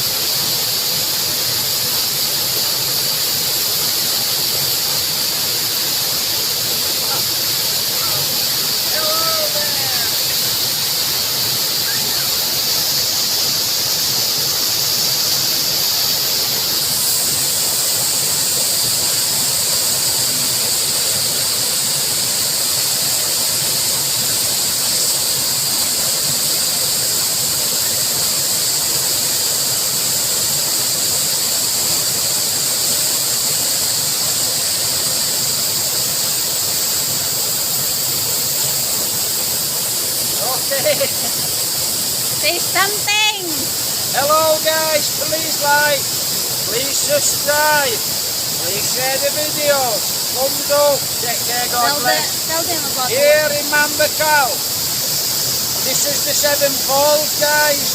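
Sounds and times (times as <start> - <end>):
high-pitched hiss: 0.0 - 57.9
waterfall rushing: 0.0 - 57.9.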